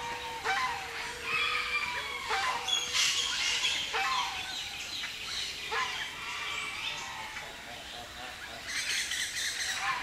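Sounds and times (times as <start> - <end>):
chorus of birds calling: 0.0 - 10.0.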